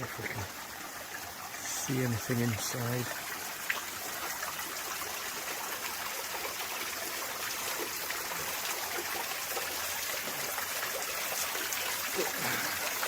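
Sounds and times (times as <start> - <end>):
water running and trickling: 0.0 - 13.0.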